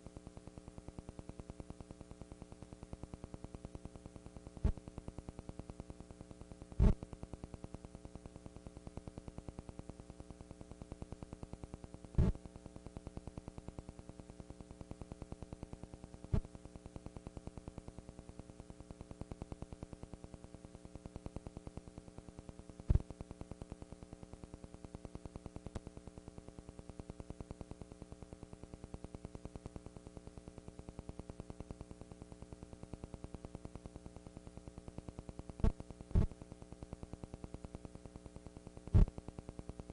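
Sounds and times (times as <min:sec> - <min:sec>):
electrical hum and buzz: 0:00.0 - 0:39.9
static hiss: 0:00.0 - 0:39.9.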